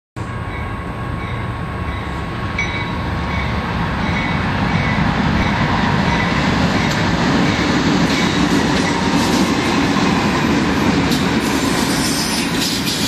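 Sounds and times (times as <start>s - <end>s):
freight train rumbling: 0.2s - 13.0s.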